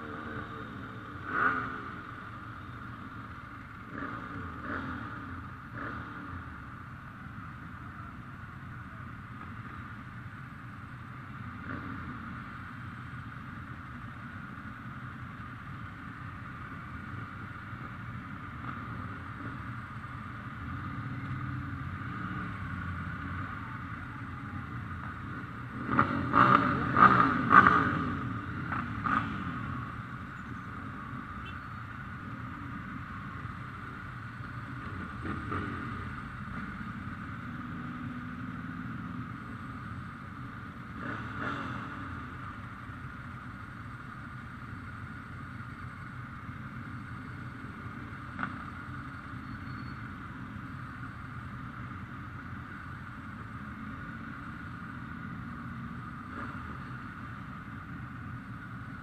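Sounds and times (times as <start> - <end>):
motorcycle engines running: 0.0 - 59.0
motorcycles revving: 0.0 - 59.0.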